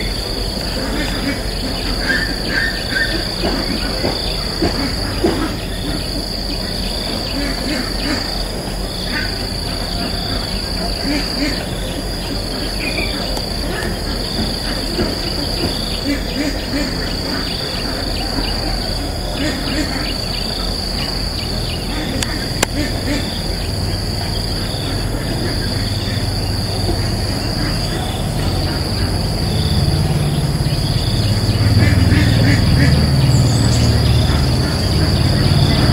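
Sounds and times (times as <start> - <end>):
insect chorus drone: 0.0 - 35.9.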